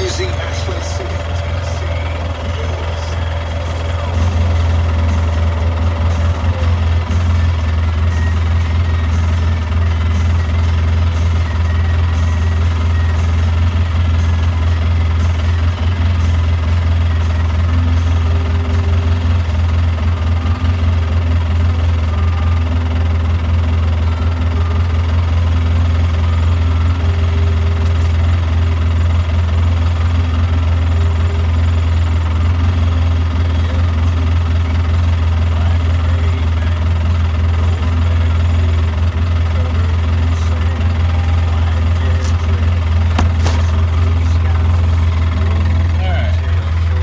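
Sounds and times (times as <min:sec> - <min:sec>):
road noise: 0:00.0 - 0:47.0
vehicle engine drone: 0:00.0 - 0:47.0.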